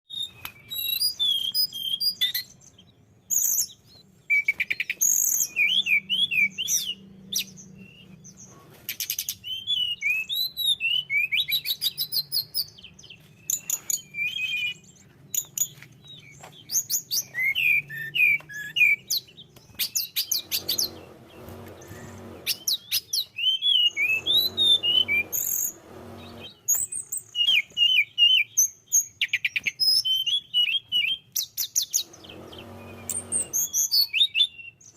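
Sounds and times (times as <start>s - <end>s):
bird singing chirps and trills: 0.1s - 34.9s.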